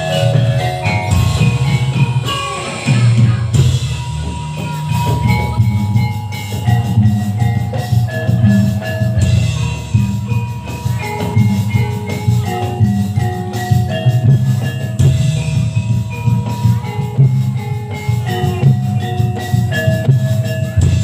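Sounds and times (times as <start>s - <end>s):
metal keyed instruments melody: 0.0s - 21.0s
pulsing drumming: 0.0s - 21.0s.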